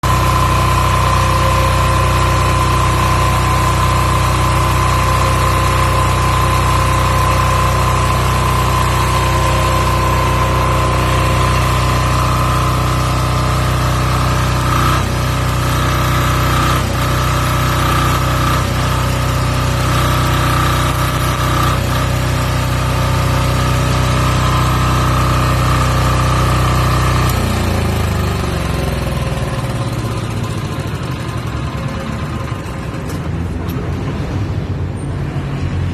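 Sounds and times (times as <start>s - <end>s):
diesel generator running: 0.0s - 35.9s.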